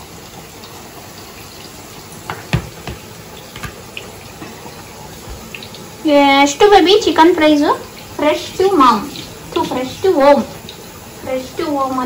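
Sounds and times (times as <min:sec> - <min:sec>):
meat deep-frying in hot oil: 0:00.0 - 0:12.0
oil popping and crackling: 0:00.4 - 0:12.0.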